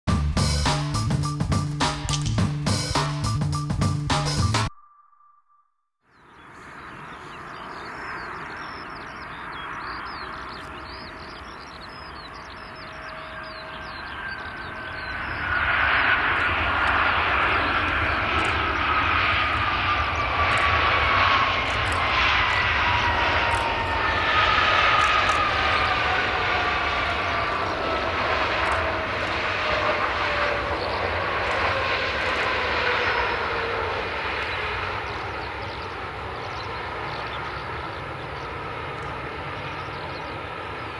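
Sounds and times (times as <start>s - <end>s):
jet engines with falling whine: 6.2s - 40.9s.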